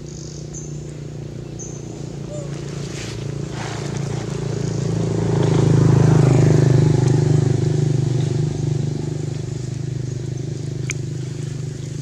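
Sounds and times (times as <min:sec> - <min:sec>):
vehicle engine passing: 0:00.4 - 0:12.0.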